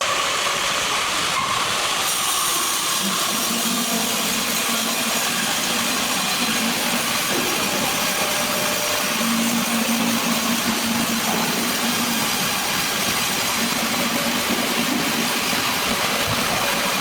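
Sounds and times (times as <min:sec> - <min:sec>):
sawmill machinery hissing: 0:00.0 - 0:17.0.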